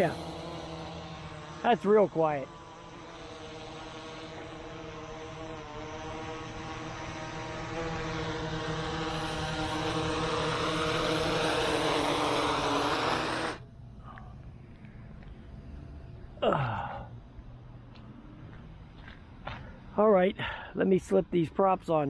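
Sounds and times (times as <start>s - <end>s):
drone rotors humming: 0.0s - 22.0s.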